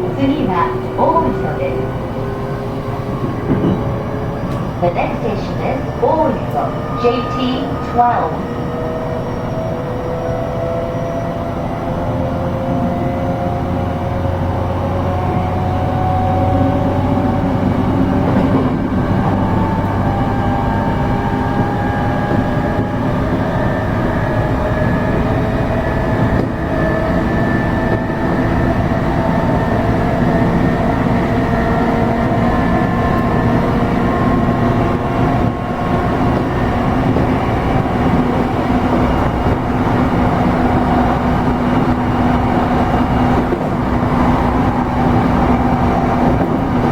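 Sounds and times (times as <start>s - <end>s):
wheel and rail rumble: 0.0s - 46.9s.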